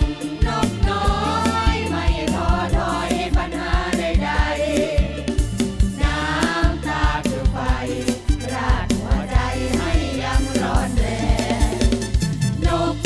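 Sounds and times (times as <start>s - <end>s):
amplified band: 0.0s - 13.0s
bass: 0.0s - 13.0s
kick drum beat: 0.0s - 13.0s
voices singing through microphones: 0.0s - 13.0s.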